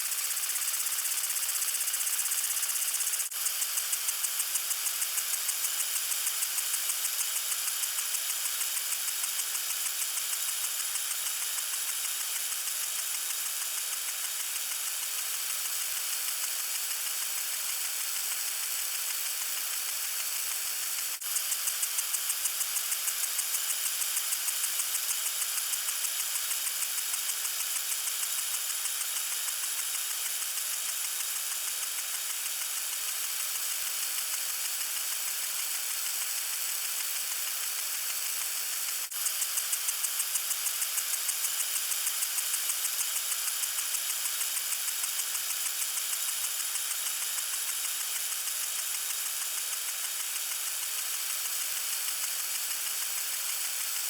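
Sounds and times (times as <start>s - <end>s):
water sprinkler hissing and ticking: 0.0s - 54.0s.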